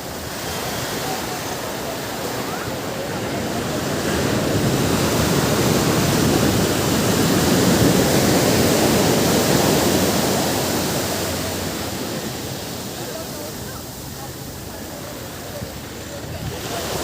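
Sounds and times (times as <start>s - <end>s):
ocean wave breaking on shore: 0.0s - 17.0s.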